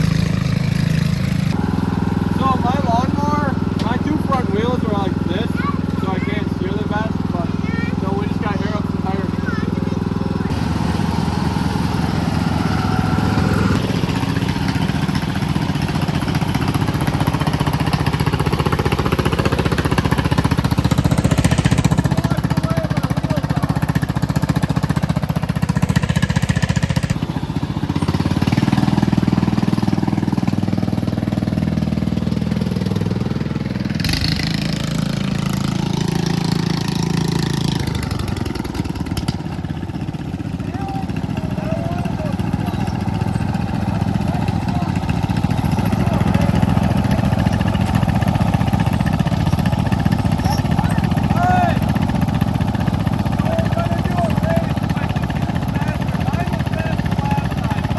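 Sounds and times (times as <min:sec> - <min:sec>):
lawn mower engines running: 0:00.0 - 0:57.9.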